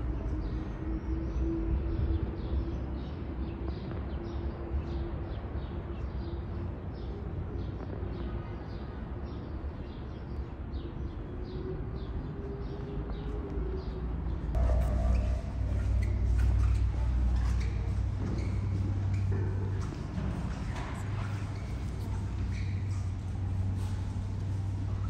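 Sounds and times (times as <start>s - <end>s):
low hum and rumble: 0.0s - 25.0s.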